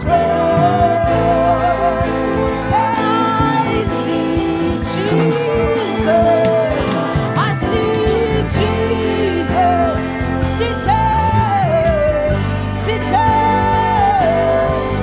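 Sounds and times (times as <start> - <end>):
live gospel band music: 0.0 - 15.0.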